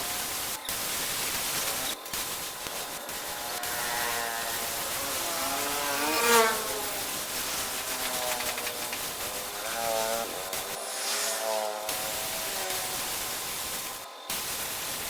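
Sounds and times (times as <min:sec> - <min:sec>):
small motor running: 0:00.0 - 0:14.5
steady hiss: 0:00.0 - 0:15.0.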